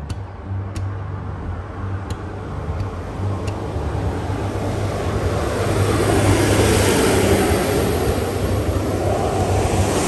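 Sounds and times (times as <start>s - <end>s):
diesel engine hum: 0.0s - 10.0s.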